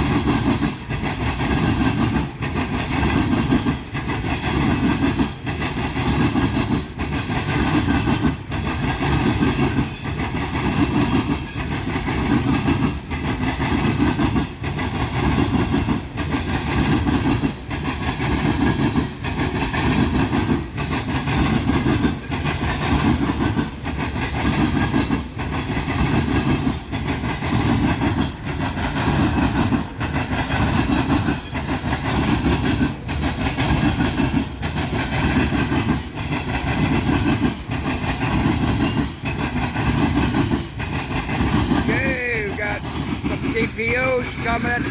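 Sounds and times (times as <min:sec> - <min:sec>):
train wheels clattering over crossing: 0:00.0 - 0:44.9.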